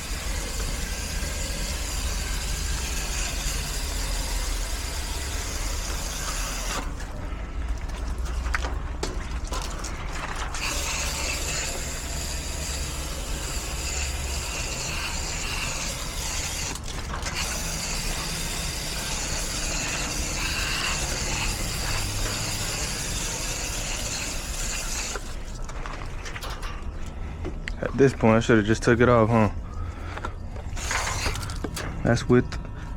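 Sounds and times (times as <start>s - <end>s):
water spraying from hose: 0.0s - 26.6s, 30.7s - 31.8s
low steady hum: 0.0s - 32.9s.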